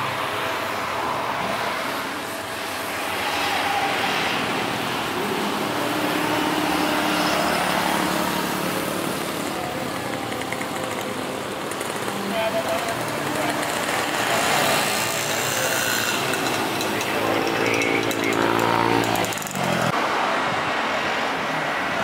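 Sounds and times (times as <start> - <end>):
jet airliner engines rushing: 0.0 - 21.9.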